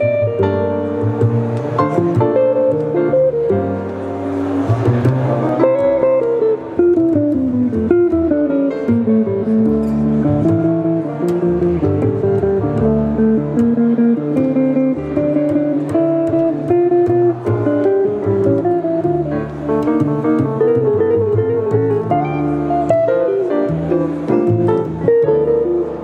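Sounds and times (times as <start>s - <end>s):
electric guitar melody: 0.0s - 26.0s
upright double bass: 0.0s - 26.0s.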